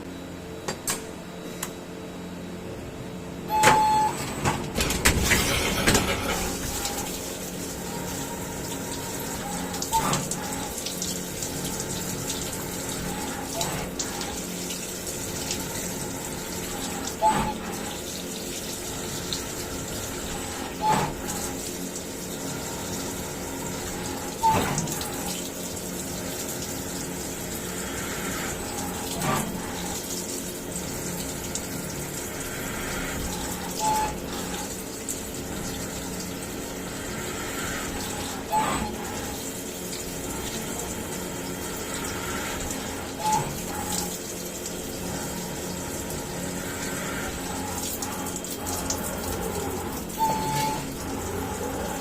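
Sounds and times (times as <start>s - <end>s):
milling machine hum and hiss: 0.0s - 52.0s.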